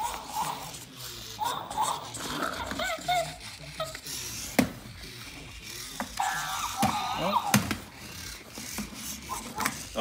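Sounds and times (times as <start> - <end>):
toy gear motors whirring: 0.0 - 10.0.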